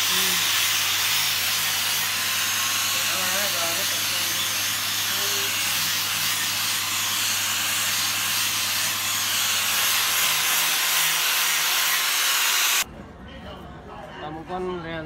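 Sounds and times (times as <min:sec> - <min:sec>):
angle grinder sanding wood: 0:00.0 - 0:12.8.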